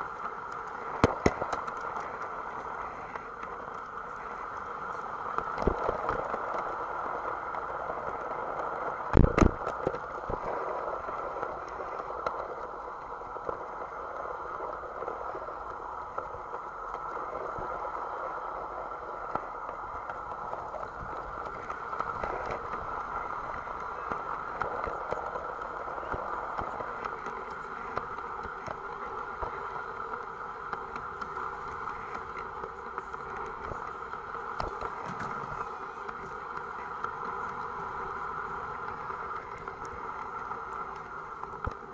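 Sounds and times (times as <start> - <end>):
model train running whirr: 0.0 - 41.9
wheels clicking over rail joints: 0.0 - 41.9.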